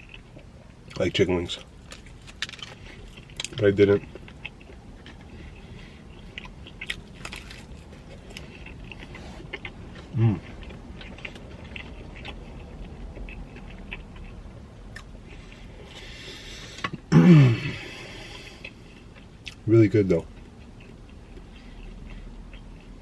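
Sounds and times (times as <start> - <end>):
mouth chewing and crunching pizza: 0.0 - 23.0.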